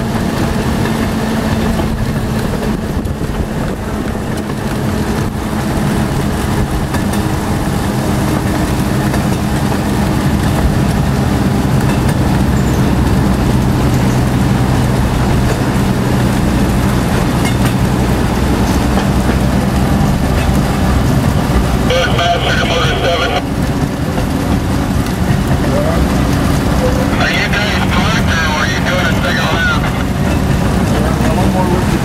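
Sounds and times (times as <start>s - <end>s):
rail car engine: 0.0s - 32.0s
wheels rumbling on rails: 0.0s - 32.0s.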